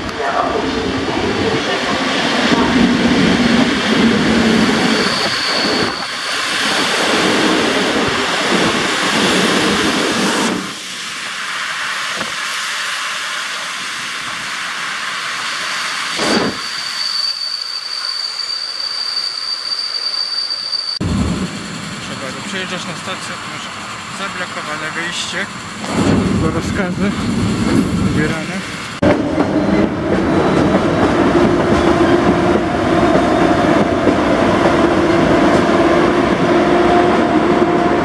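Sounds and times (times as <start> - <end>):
train wheel and rail noise: 0.0 - 38.0.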